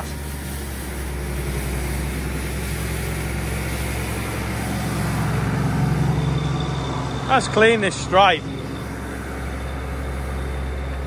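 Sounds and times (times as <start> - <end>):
sweeper brush scrubbing concrete: 0.0 - 6.4, 7.2 - 11.0
tractor engine running: 0.0 - 11.0.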